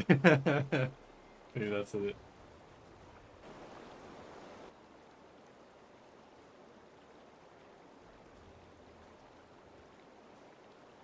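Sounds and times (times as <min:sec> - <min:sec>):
faint microphone hiss: 0:00.0 - 0:11.0.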